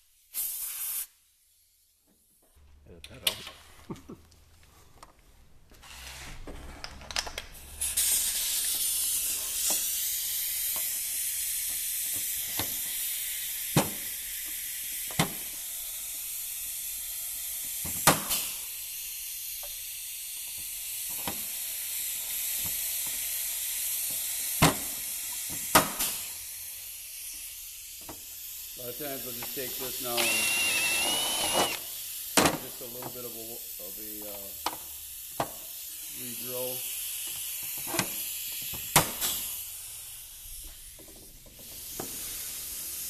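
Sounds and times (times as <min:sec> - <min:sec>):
compressed air hissing: 0:00.0 - 0:01.6, 0:07.5 - 0:43.0.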